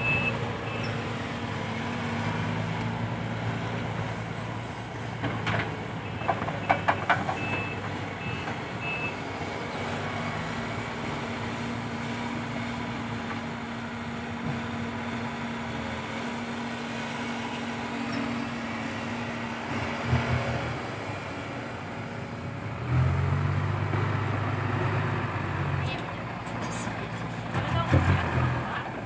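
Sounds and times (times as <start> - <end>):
diesel engines running: 0.0 - 29.0
engine under load: 0.0 - 29.0.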